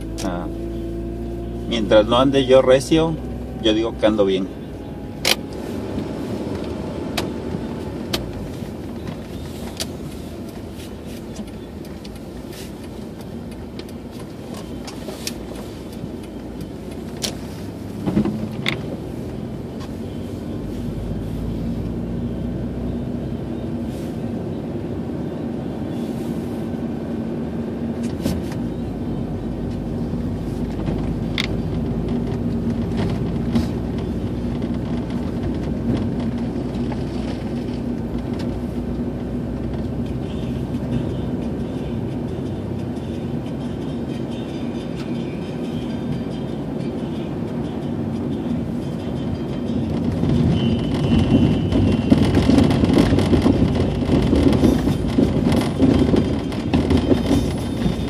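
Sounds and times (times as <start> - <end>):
car engine hum: 0.0 - 58.0.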